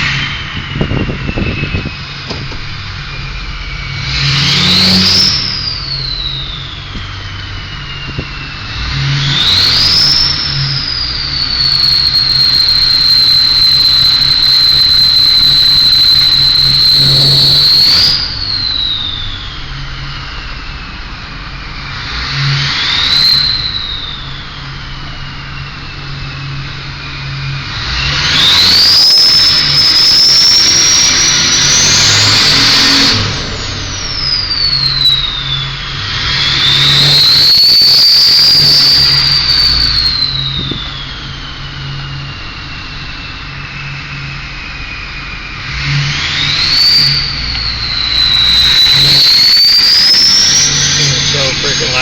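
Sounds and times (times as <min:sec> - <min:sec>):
diesel engine revving: 0:00.0 - 0:52.0
turbo whistling: 0:00.0 - 0:52.0.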